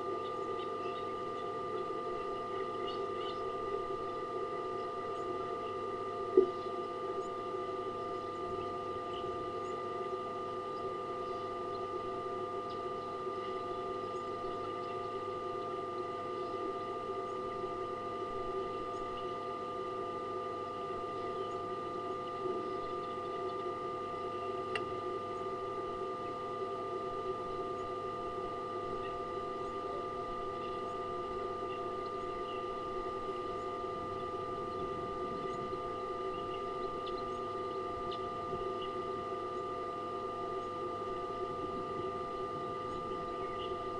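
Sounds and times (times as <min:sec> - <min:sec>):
electrical hum: 0:00.0 - 0:43.9.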